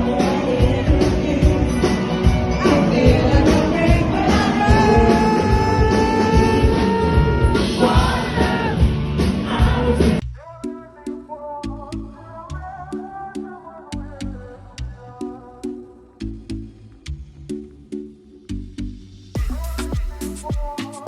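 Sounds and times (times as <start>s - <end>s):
loud music with singing: 0.0s - 16.7s, 19.4s - 21.0s.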